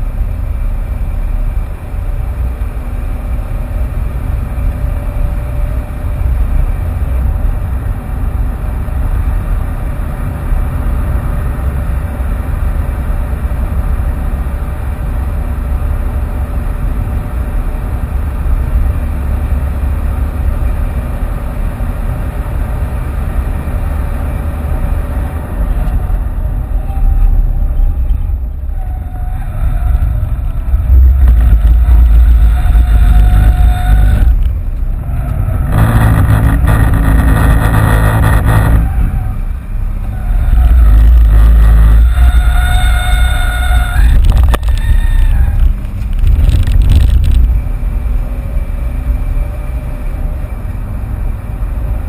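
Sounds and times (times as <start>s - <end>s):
car engine under load: 0.0s - 52.0s
road and tyre noise: 0.0s - 52.0s.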